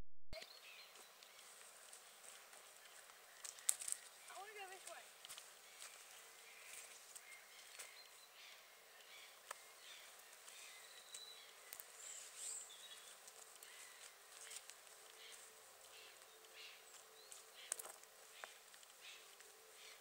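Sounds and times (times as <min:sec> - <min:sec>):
distant birds chirping: 0:00.4 - 0:20.0.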